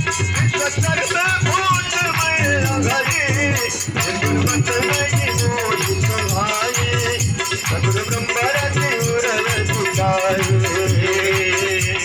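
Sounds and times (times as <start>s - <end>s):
dholak drum beats: 0.0s - 12.0s
hand cymbals chinking: 0.0s - 12.0s.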